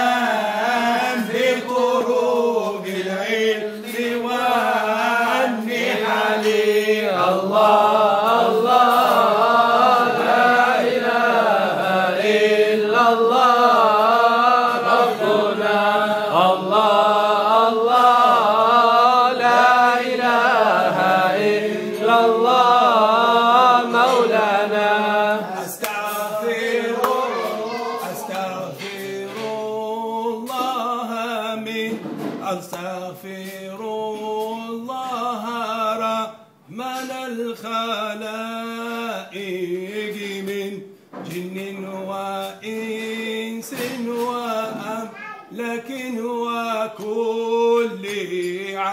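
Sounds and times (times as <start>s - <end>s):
man chanting devotional song: 0.0s - 48.9s.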